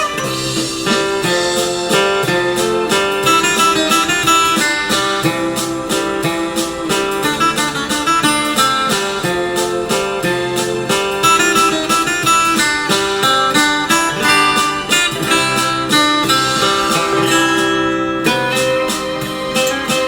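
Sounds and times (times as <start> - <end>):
guitar piece: 0.0 - 20.0.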